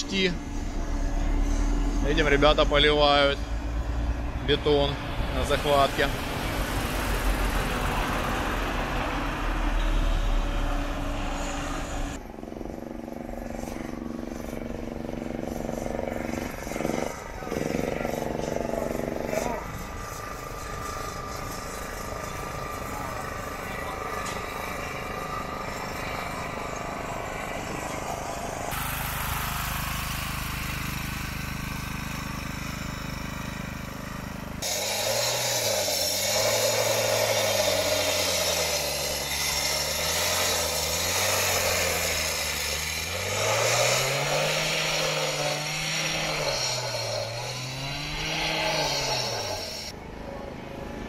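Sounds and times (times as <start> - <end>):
heavy diesel engine: 0.0 - 51.0.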